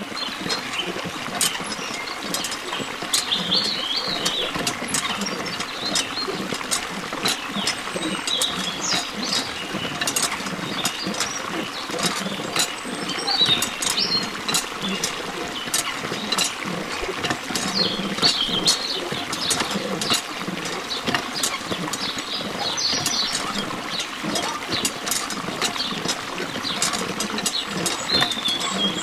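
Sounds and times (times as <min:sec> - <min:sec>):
drip-like clicks: 0:00.0 - 0:29.0
water pouring and splashing: 0:00.0 - 0:29.0.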